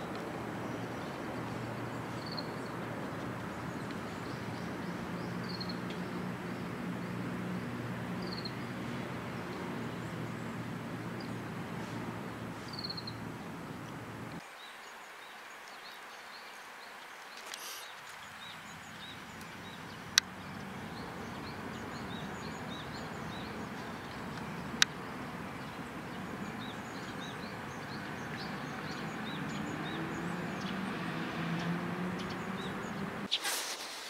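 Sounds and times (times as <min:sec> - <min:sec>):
small birds chirping: 0:00.0 - 0:33.5.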